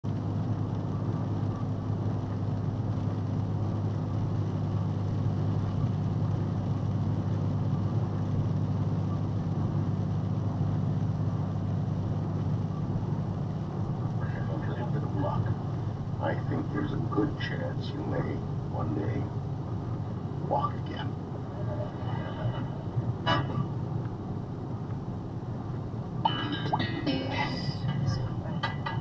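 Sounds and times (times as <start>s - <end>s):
truck engine and road drone: 0.0s - 29.0s.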